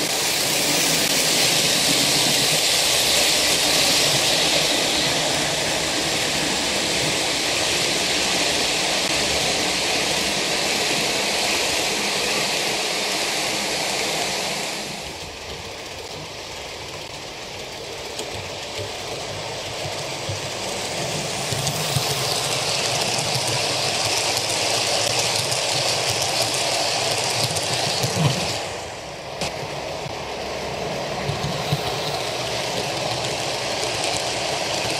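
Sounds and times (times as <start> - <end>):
model train wheels rumbling: 0.0 - 34.9.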